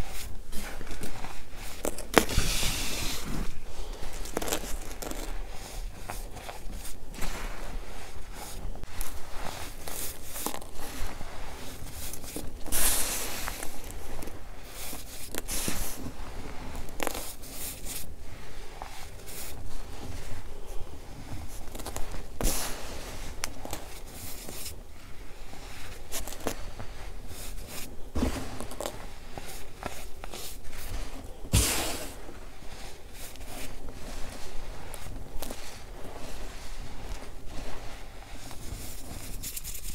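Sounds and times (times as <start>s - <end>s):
hands crunching baking soda: 0.0s - 39.9s.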